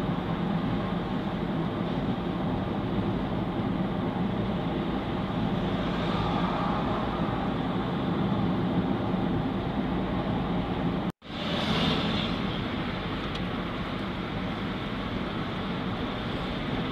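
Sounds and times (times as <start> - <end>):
car road and engine noise: 0.0 - 16.9.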